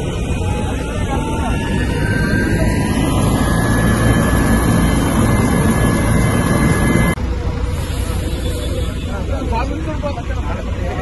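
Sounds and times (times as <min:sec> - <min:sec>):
thin high whine: 0:00.0 - 0:09.3
helicopter engine and rotor: 0:00.0 - 0:10.8.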